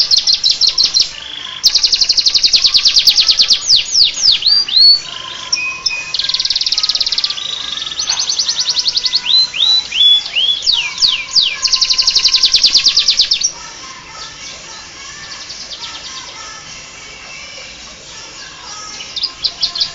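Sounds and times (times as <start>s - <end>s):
canary singing trills: 0.0s - 19.9s
faint bird chirping: 0.0s - 19.9s.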